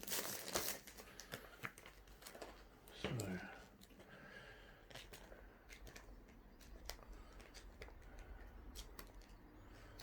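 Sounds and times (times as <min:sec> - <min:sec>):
booklet pages turning: 0:00.0 - 0:04.2, 0:04.8 - 0:10.0.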